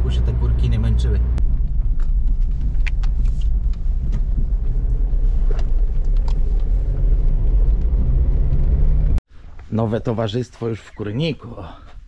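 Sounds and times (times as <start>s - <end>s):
car tyres and engine rumbling: 0.0s - 9.7s.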